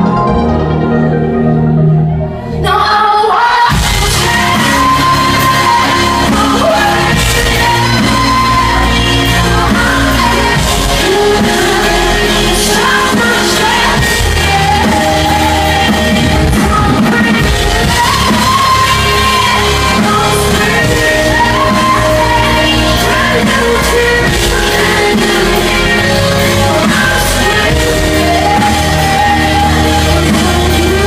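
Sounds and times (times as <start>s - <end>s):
live rock band playing: 0.0s - 31.0s
person singing: 0.0s - 31.0s.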